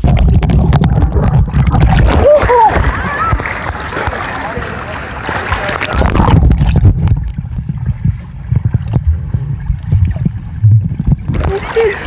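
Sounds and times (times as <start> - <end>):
dull underwater thuds: 0.0 - 11.7
muffled underwater churning: 0.0 - 12.0
water splashing: 0.0 - 12.0.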